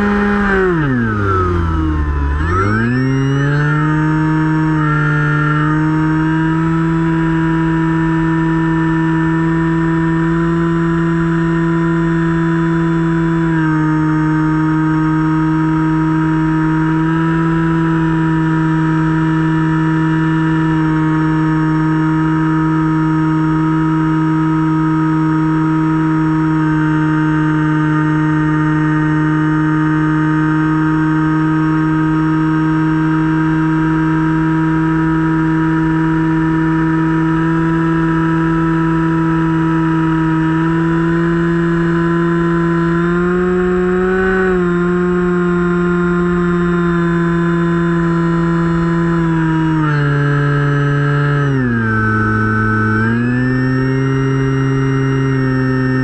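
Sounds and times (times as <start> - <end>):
electric motor and propeller whine: 0.0 - 56.0.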